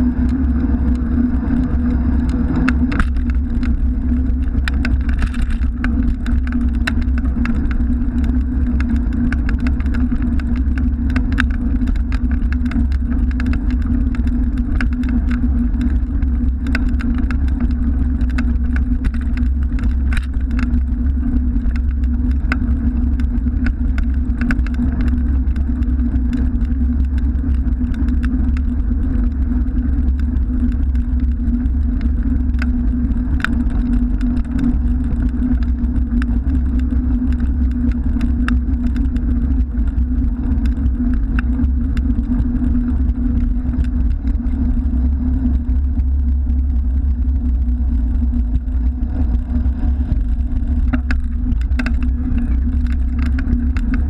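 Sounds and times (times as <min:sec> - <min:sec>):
bicycle rolling over brick paving: 0:00.0 - 0:54.0
small clicks and rattles: 0:00.0 - 0:54.0.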